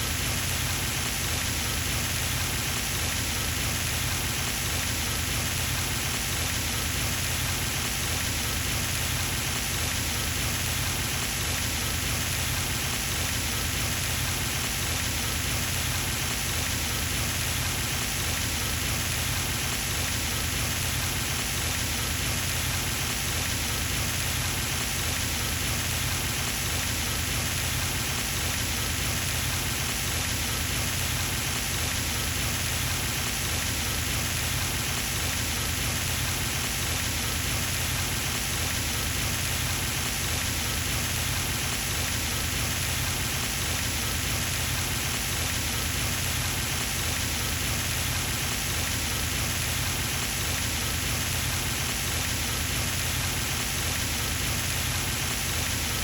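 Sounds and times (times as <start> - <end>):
fountain water splashing: 0.1 - 56.0.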